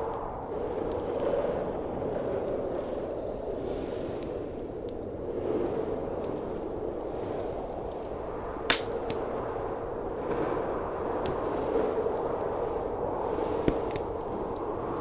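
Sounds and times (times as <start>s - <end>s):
blizzard wind rushing: 0.0s - 15.0s
wood fire crackling and popping: 0.0s - 15.0s.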